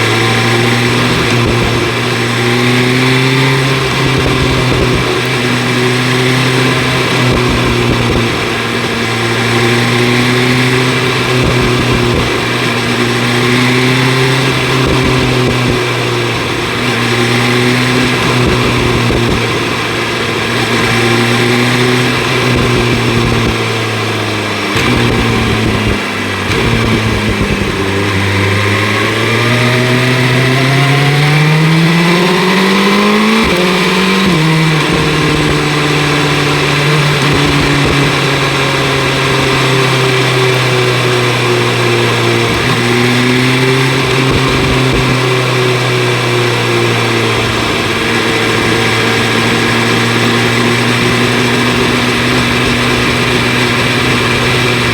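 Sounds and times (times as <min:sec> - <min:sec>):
wind noise: 0:00.0 - 0:24.0, 0:24.6 - 0:54.9
motorcycle engine accelerating: 0:00.0 - 0:54.9.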